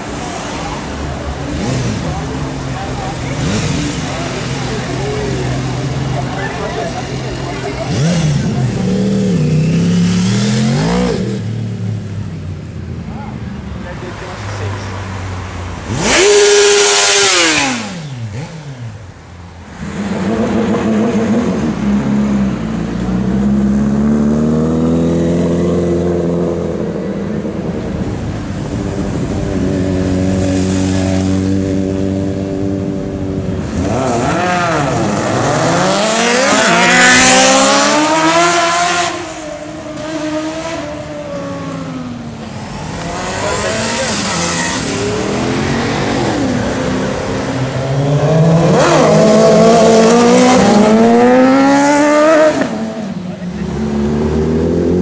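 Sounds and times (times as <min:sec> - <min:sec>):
motorcycles accelerating past: 0:01.3 - 0:12.2, 0:15.8 - 0:19.0, 0:19.8 - 0:55.0.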